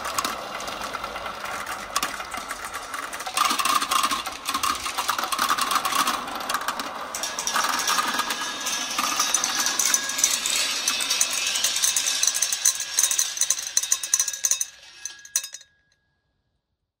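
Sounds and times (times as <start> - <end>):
small balls rattling on steel rail: 0.0 - 15.7.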